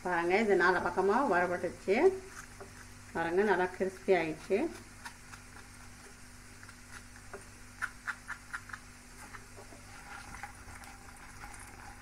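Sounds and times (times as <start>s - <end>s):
food frying in oil: 0.0s - 12.0s
low steady hum: 0.0s - 12.0s.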